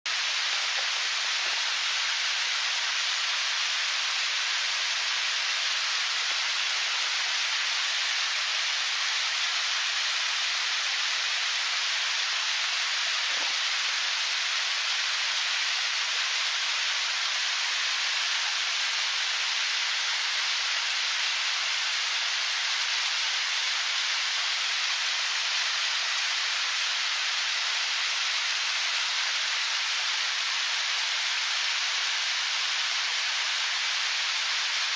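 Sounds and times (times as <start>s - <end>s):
waterfall rushing and splashing: 0.1s - 34.9s.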